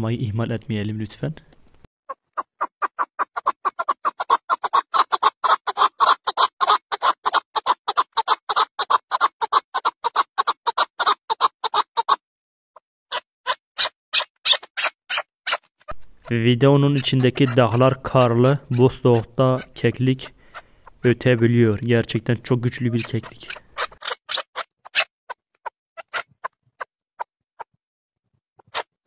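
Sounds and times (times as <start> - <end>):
partridge calling: 2.1 - 12.2, 13.1 - 21.4, 22.2 - 27.3, 28.6 - 28.9.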